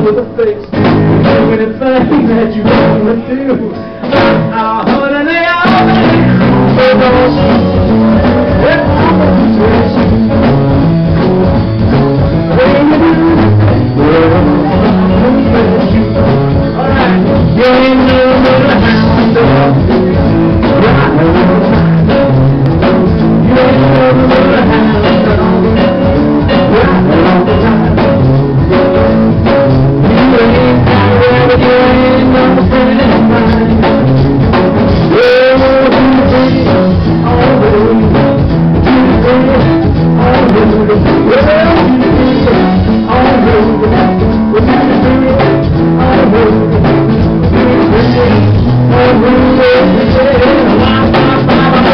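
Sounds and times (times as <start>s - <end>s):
drum kit: 0.0s - 51.9s
electric guitar: 0.0s - 51.9s
man singing into a microphone: 0.0s - 51.9s.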